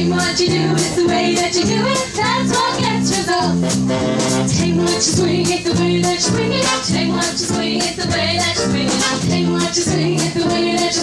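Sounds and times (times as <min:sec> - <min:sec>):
jazz band playing: 0:00.0 - 0:11.0.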